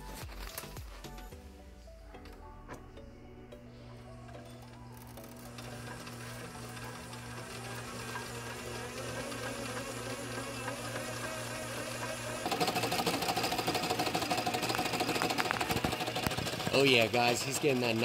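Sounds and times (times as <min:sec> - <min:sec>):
line-spooling machine whirring: 0:02.2 - 0:18.0.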